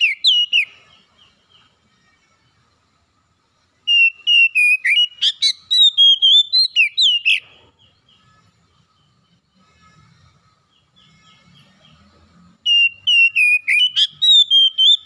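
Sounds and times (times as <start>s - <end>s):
bird singing whistled notes: 0.0s - 2.6s, 3.8s - 15.0s.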